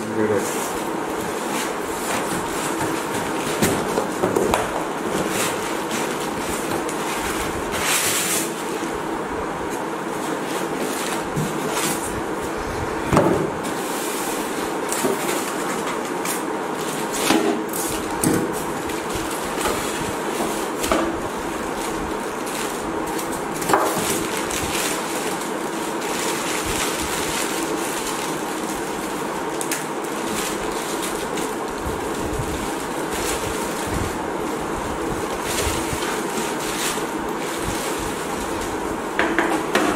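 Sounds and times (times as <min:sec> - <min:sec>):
plastic packaging rustling: 0:00.0 - 0:39.9.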